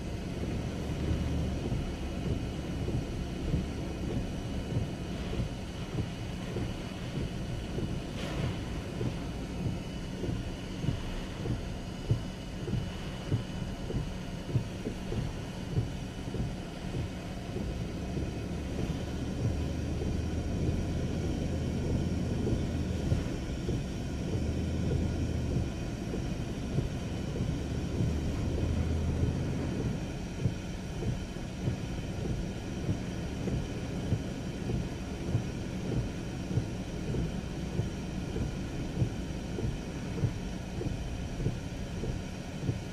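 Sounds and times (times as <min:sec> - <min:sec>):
car interior rumble: 0:00.0 - 0:42.9
wind and heavy rain: 0:00.0 - 0:42.9.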